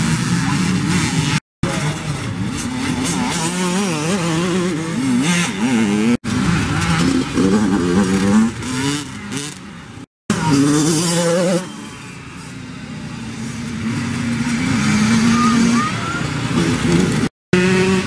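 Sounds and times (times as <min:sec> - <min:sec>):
dirt bike engines racing: 0:00.0 - 0:18.0.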